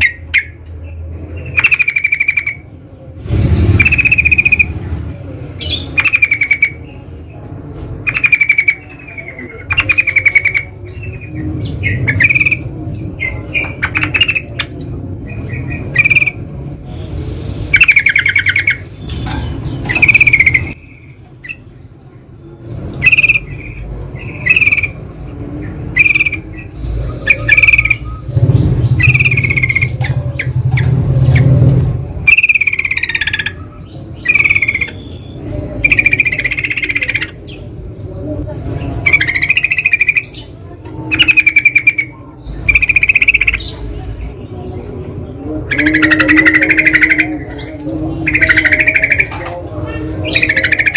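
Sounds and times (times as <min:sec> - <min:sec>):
bulbuls chattering: 0:00.0 - 0:50.9.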